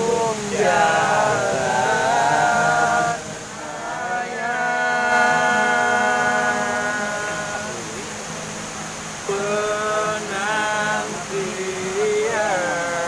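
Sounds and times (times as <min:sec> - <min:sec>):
men singing long notes: 0:00.0 - 0:08.4, 0:09.1 - 0:13.0.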